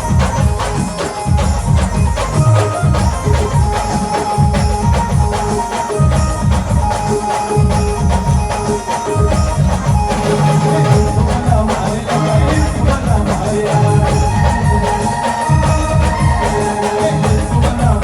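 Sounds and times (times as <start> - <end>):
fast heavy drumming: 0.0 - 18.0
jingling percussion: 0.0 - 18.0.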